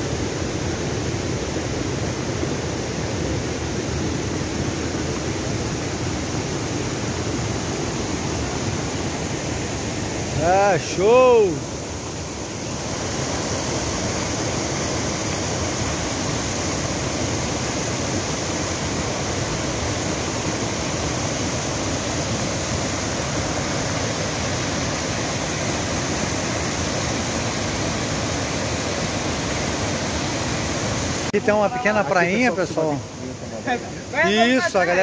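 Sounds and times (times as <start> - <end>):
waterfall rushing over rocks: 0.0 - 35.0.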